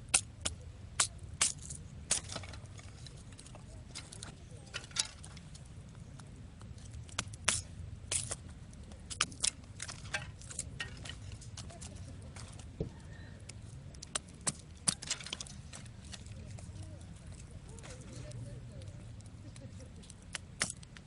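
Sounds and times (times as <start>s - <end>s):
campfire crackling and popping: 0.0s - 21.0s
steady low rumble: 0.0s - 21.0s.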